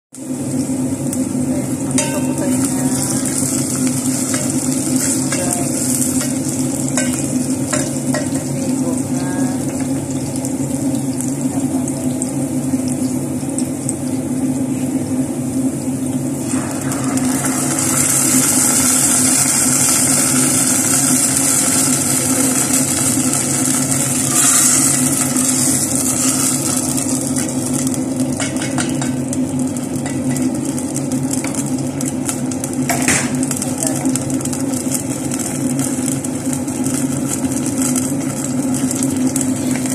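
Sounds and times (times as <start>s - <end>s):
onions sizzling in hot oil: 0.1s - 39.9s
steady low hum: 0.2s - 39.9s.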